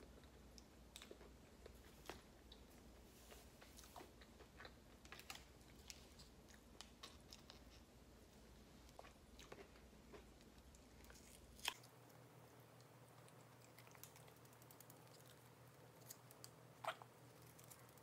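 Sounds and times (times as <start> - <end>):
chewing fried food: 0.0 - 7.9, 8.8 - 18.0.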